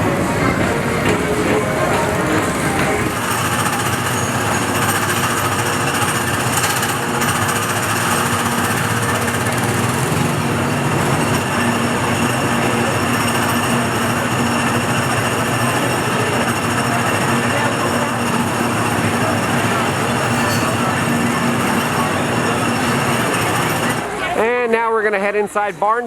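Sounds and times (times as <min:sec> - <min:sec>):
ride car rumbling on track: 0:00.0 - 0:26.0.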